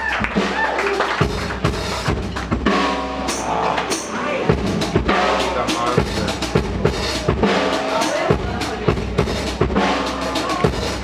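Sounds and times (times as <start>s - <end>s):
drum kit beating: 0.0s - 11.0s.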